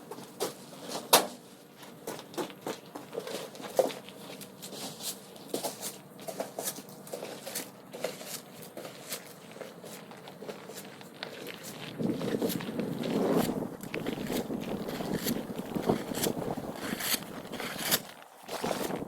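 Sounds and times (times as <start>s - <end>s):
footsteps crunching on snow: 0.1s - 19.0s.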